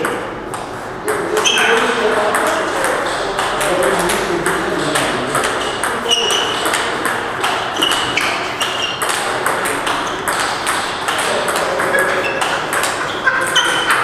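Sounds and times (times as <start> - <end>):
table tennis balls clicking: 0.0 - 14.0.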